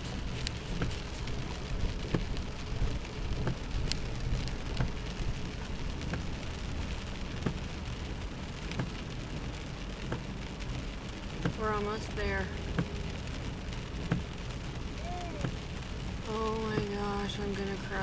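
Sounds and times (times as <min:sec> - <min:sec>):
car driving through floodwater: 0:00.0 - 0:18.0
heavy rain striking a car: 0:00.0 - 0:18.0.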